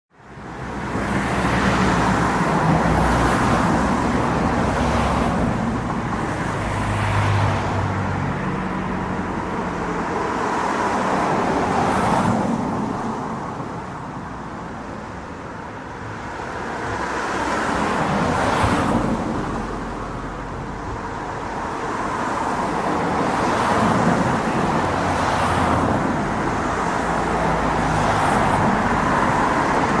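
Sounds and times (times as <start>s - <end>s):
road traffic: 0.1s - 30.0s
vehicles passing: 0.2s - 30.0s.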